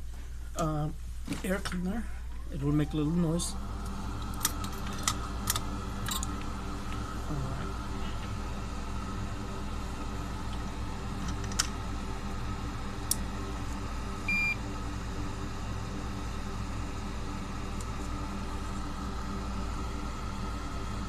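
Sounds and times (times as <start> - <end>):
air cleaner humming: 0.0 - 21.0.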